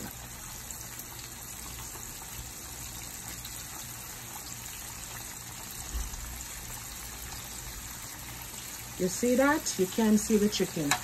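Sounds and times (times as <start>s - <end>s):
chicken deep-frying in hot oil: 0.0s - 11.0s.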